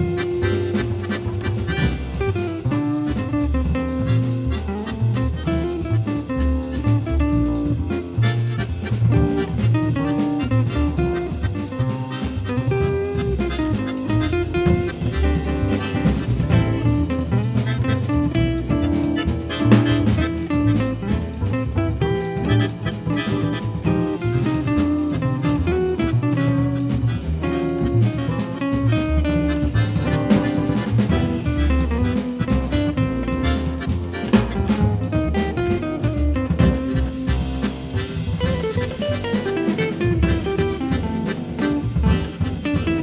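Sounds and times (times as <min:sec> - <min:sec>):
jazz music with guitar and drums: 0:00.0 - 0:43.0.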